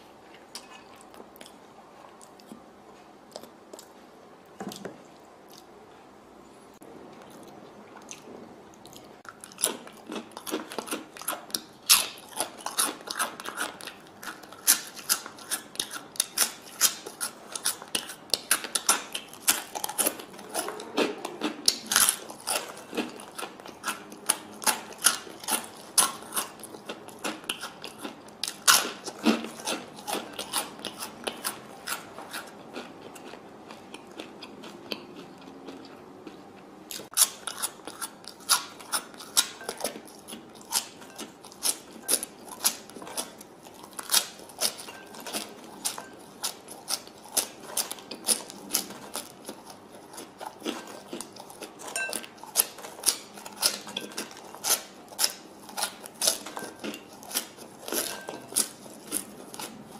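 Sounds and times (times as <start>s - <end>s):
chewing crunchy snacks: 7.1s - 59.9s.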